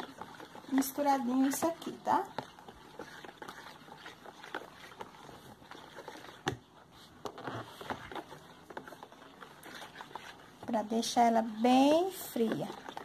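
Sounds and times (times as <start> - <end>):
spatula swishing liquid: 0.0 - 13.0.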